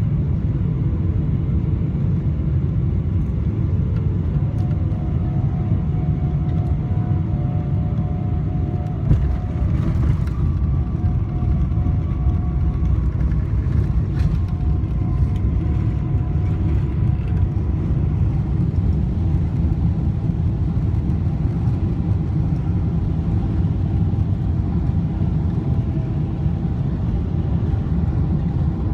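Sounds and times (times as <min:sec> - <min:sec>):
aircraft cabin low rumble: 0:00.0 - 0:28.9.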